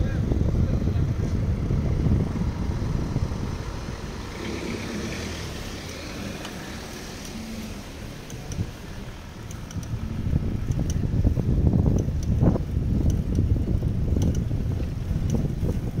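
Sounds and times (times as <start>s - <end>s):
car engines passing: 0.0s - 16.0s
wind rumble on microphone: 0.0s - 16.0s.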